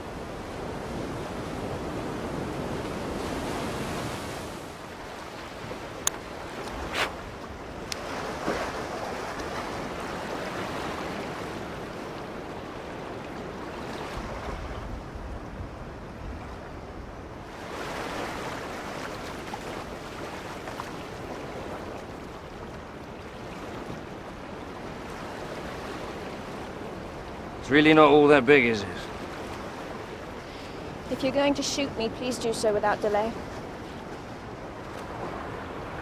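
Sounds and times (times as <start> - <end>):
ocean surf breaking on beach: 0.0 - 36.0.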